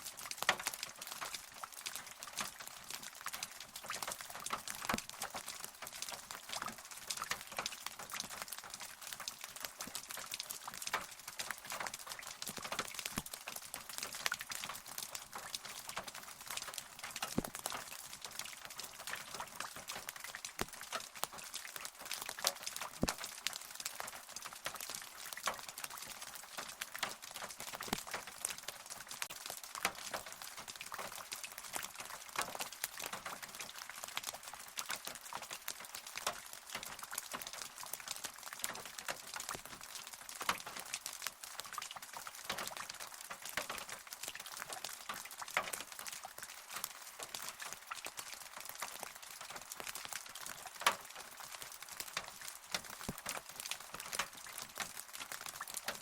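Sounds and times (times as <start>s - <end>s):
rain falling: 0.0s - 56.0s
sharp drips and taps: 0.3s - 56.0s.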